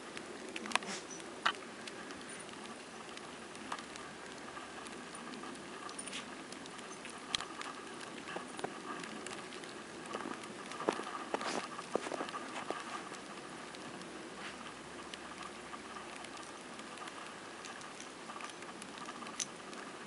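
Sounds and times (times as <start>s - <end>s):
faint steady hiss: 0.0s - 20.0s
light ticks and pats: 0.1s - 20.0s.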